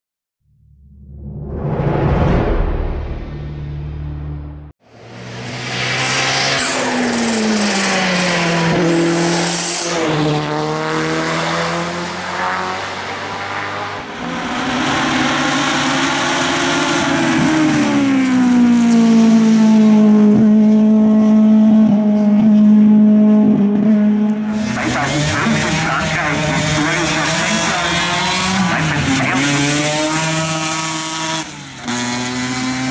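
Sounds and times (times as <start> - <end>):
race car engine at high revs: 4.8 - 32.9.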